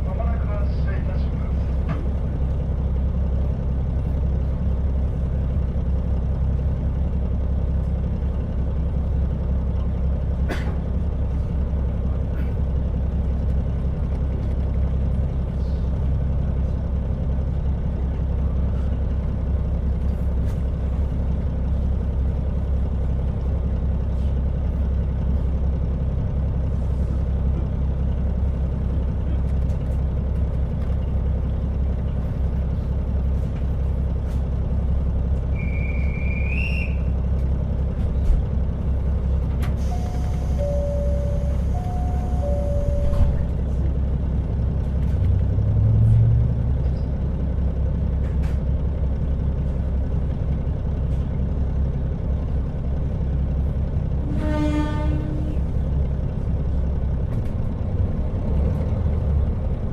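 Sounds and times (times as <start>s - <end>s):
diesel railcar engine drone: 0.0s - 59.9s.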